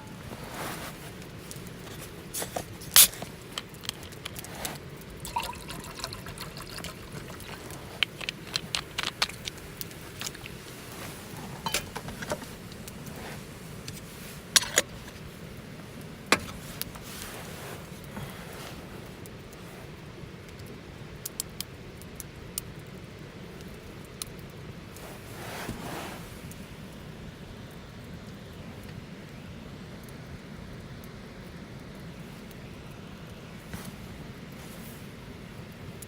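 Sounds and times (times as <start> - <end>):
campfire crackling and popping: 0.0 - 25.6, 26.4 - 36.0
low steady hiss: 0.0 - 36.0.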